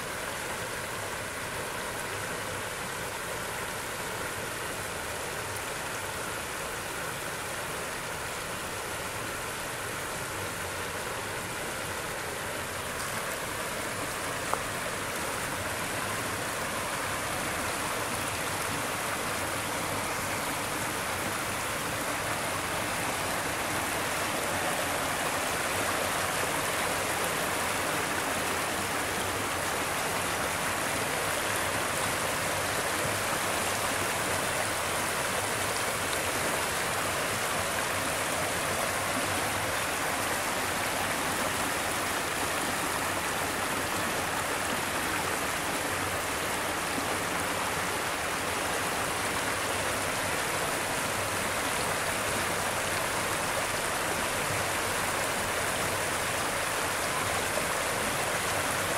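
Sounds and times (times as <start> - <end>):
water rushing over rocks: 0.0 - 58.9.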